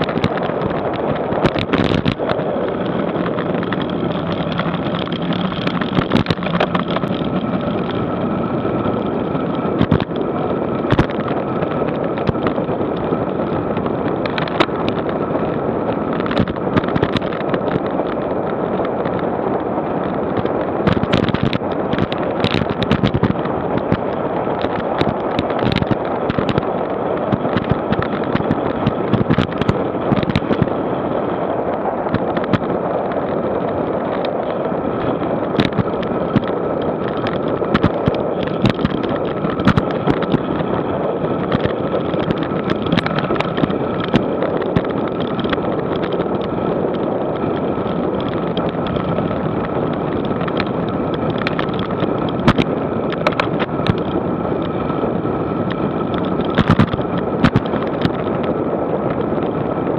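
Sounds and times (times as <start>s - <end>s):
sharp knocks and pops: 0.0s - 8.0s, 9.8s - 10.2s, 10.8s - 13.1s, 13.8s - 15.2s, 16.1s - 19.3s, 20.0s - 30.8s, 32.1s - 40.8s, 41.4s - 54.8s, 55.7s - 59.2s
wind rushing over microphone: 0.0s - 59.9s.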